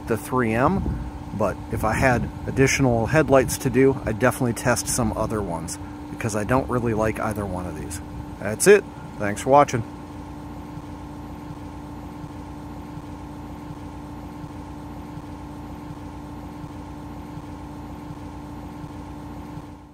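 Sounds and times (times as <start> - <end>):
mechanical engine drone: 0.0 - 19.9.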